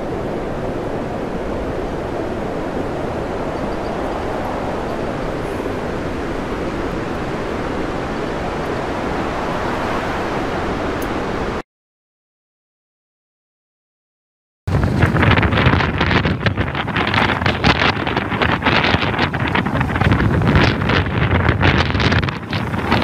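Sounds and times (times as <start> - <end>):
storm wind: 0.0 - 11.6, 14.7 - 23.0.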